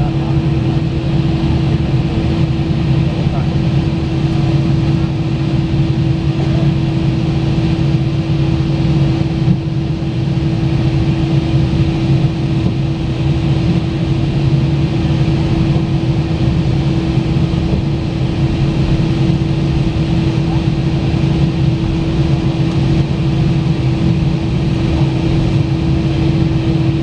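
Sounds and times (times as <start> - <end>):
aircraft engines droning in cabin: 0.0 - 27.0.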